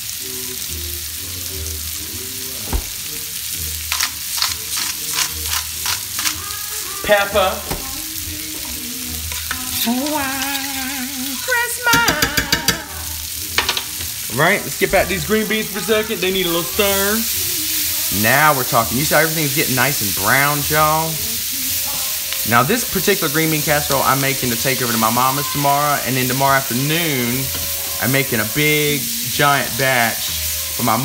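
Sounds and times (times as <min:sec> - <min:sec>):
beans sizzling in a pan: 0:00.0 - 0:31.0.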